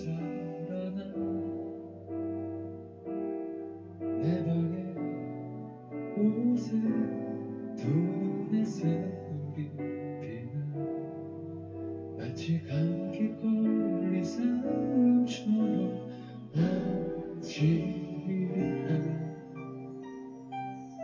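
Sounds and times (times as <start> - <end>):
keyboard chords: 0.0 - 21.0.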